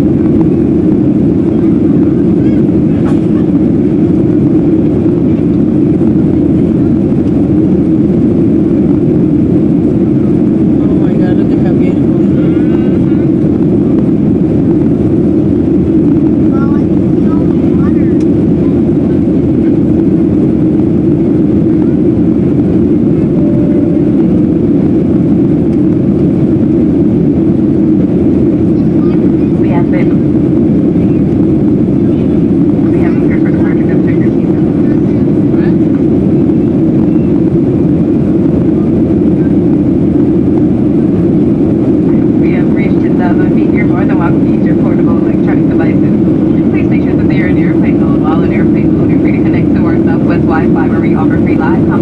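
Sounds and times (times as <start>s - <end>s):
jet engines rumbling in cabin: 0.0s - 52.0s
rushing air: 0.0s - 52.0s.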